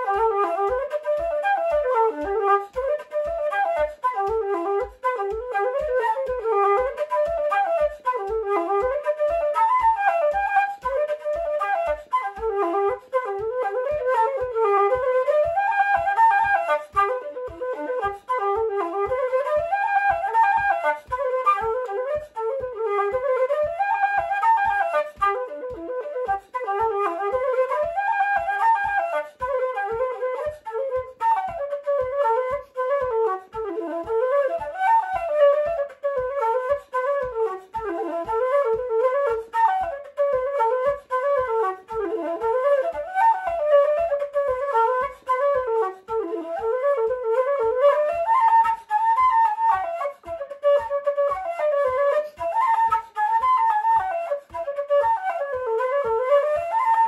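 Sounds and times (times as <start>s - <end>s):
wooden flute melody: 0.0s - 57.0s.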